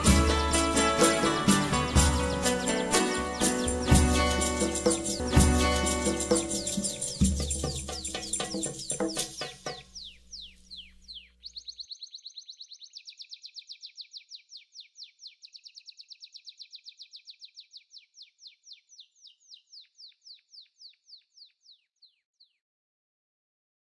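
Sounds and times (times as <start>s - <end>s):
bird chirping high and falling: 0.0s - 22.2s.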